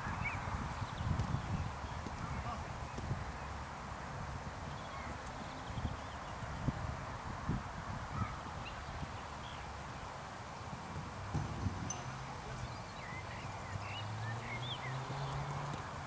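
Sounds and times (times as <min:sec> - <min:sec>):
small birds chirping: 0:00.0 - 0:03.6, 0:04.6 - 0:06.8, 0:08.2 - 0:16.0
wind noise: 0:00.0 - 0:12.9.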